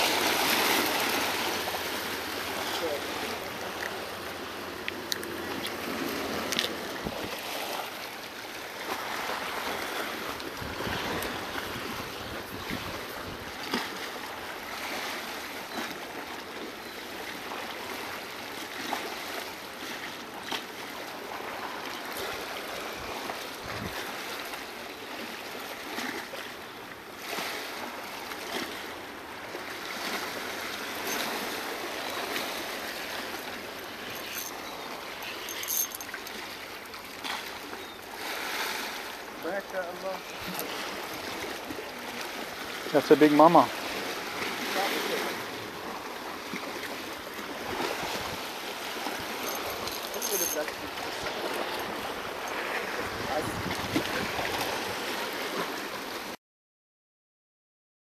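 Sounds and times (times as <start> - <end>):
small waves splashing on rocks: 0.0 - 26.6, 27.2 - 56.3.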